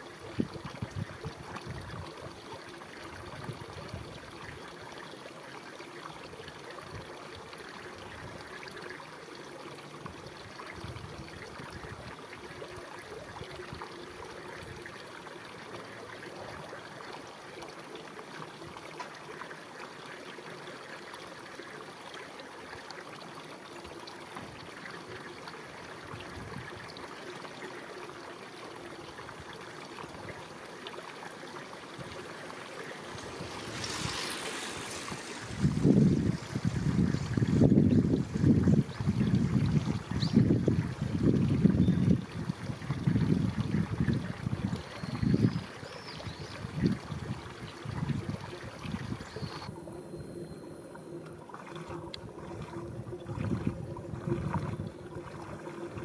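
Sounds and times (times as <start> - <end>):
shallow river water flowing: 0.0 - 56.0.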